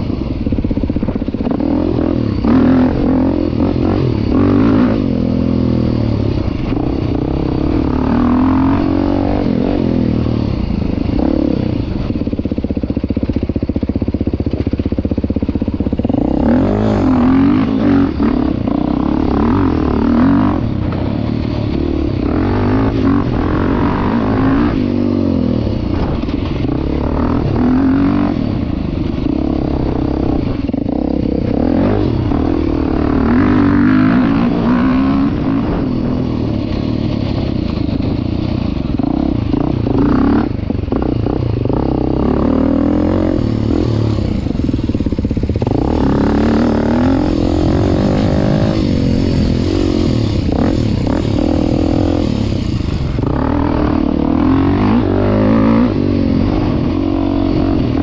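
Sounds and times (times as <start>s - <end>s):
motorcycle engine revving under load: 0.0s - 58.0s.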